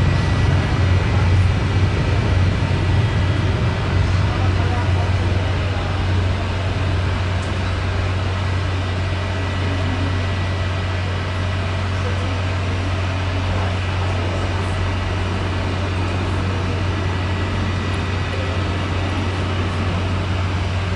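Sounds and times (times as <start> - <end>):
jet engines taking off: 0.0 - 20.9.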